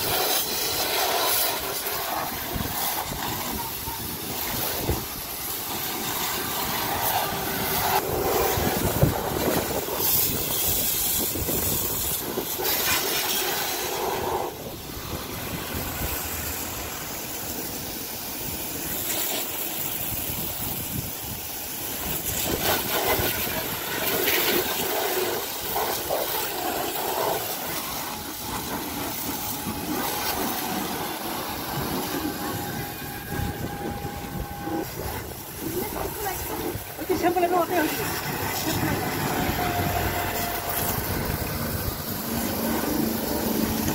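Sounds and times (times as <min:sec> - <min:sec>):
hose water spraying on car: 0:00.0 - 0:43.9.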